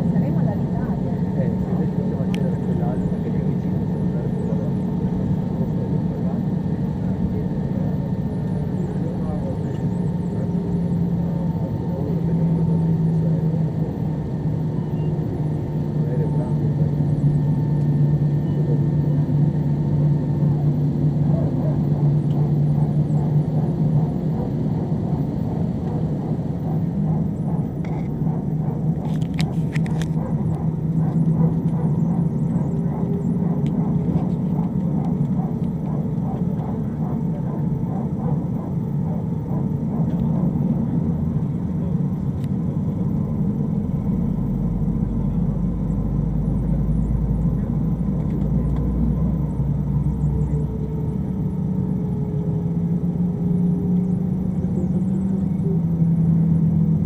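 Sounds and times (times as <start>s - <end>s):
deep low rumble: 0.0s - 57.0s
jet engines humming: 0.0s - 57.0s.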